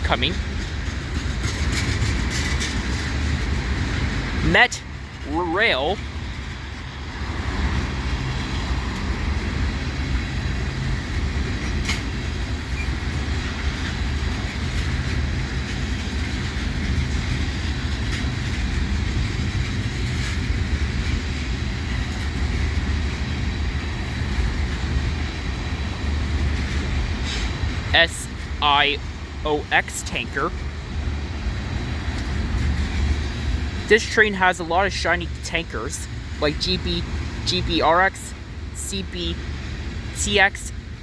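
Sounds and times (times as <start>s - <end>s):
wheels clicking over rail joints: 0.0s - 37.6s
train wheels rumbling on rail: 0.0s - 41.0s.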